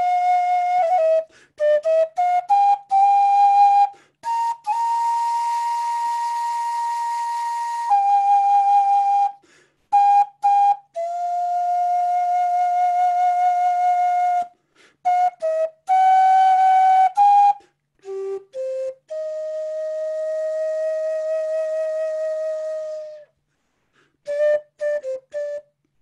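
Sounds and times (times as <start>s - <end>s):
wooden flute melody: 0.0s - 26.0s.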